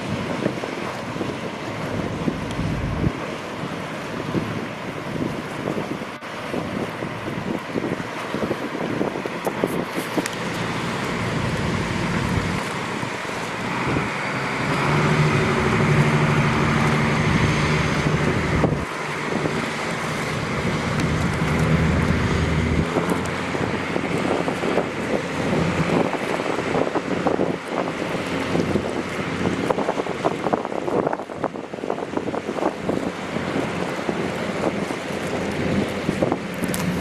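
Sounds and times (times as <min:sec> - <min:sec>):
vehicle engine hum: 0:00.0 - 0:05.6, 0:09.6 - 0:31.2, 0:31.9 - 0:37.0
wind noise on microphone: 0:00.0 - 0:37.0.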